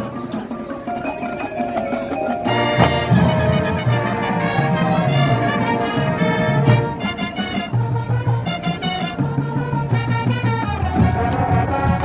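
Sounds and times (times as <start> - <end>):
marching band playing: 0.2 - 12.0.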